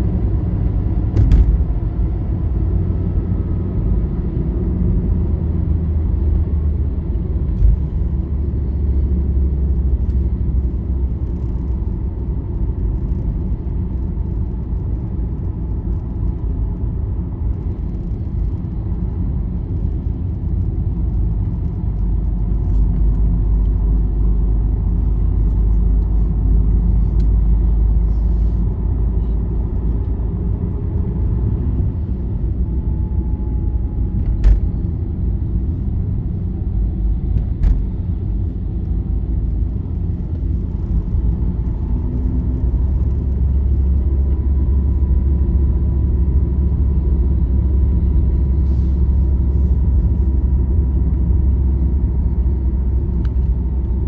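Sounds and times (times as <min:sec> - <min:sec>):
vehicle cruising on highway: 0:00.0 - 0:54.0.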